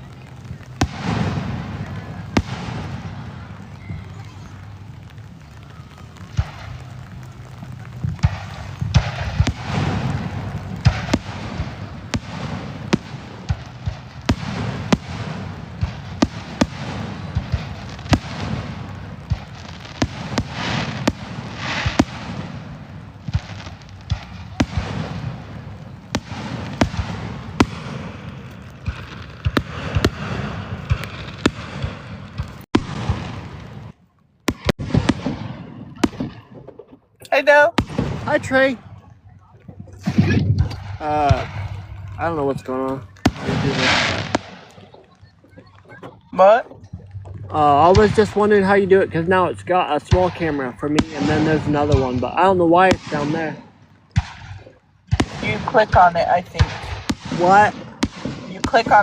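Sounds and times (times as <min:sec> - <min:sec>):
low rumble: 0:00.0 - 0:58.5
fireworks bangs and pops: 0:00.0 - 0:59.0
fireworks crackling: 0:00.0 - 0:59.0.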